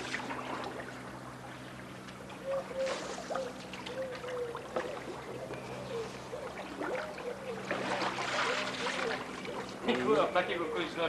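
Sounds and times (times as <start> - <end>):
paddles dipping in water: 0.0 - 10.4
water trickling and splashing: 0.0 - 10.6
steady low hum: 0.0 - 11.0
faint wavering tone: 1.2 - 11.0.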